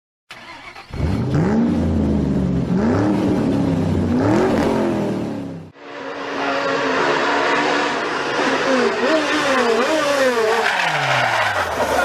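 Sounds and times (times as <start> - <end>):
rally car engine accelerating: 0.6 - 12.0.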